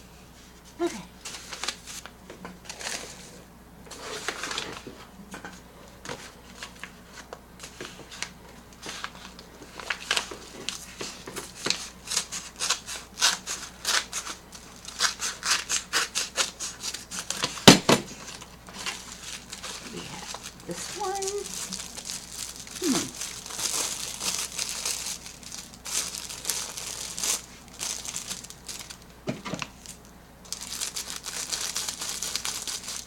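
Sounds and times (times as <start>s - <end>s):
cards and packaging rustling: 1.2s - 3.3s, 3.9s - 4.9s, 6.0s - 33.0s.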